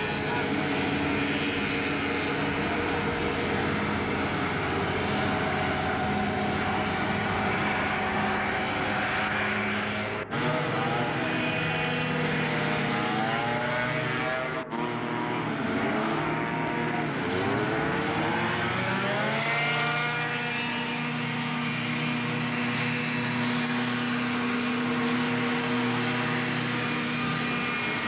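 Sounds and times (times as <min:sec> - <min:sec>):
hovercraft engines droning: 0:00.0 - 0:28.0.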